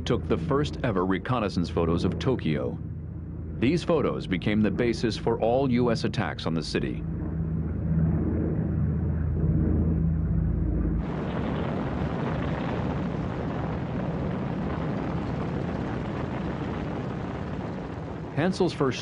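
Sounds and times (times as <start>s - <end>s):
propeller aircraft engine drone: 0.0s - 19.0s
radial engines roaring: 0.0s - 19.0s.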